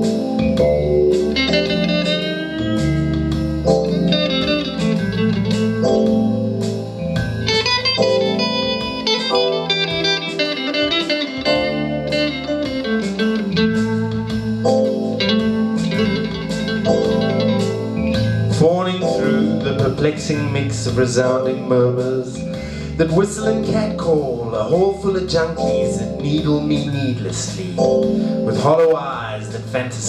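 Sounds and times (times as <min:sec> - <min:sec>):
electric guitar melody: 0:00.0 - 0:29.9
bass line: 0:00.0 - 0:30.0
ticking beat: 0:00.0 - 0:30.0.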